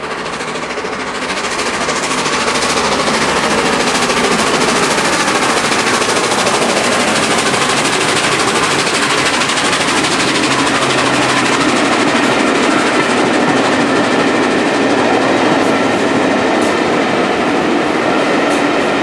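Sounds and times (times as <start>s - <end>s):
steam locomotive exhaust beating: 0.0s - 19.0s
train coaches rolling past: 0.0s - 19.0s.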